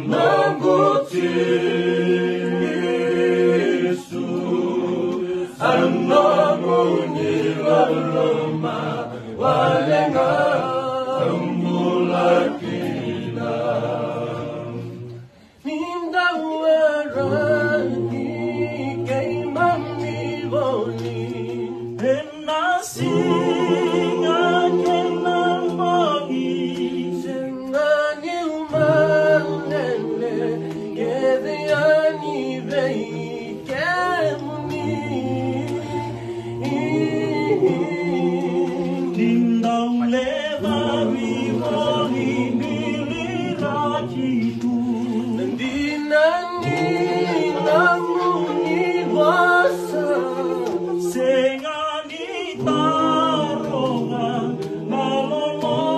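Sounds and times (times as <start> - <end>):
men singing a cappella hymn: 0.0 - 55.9.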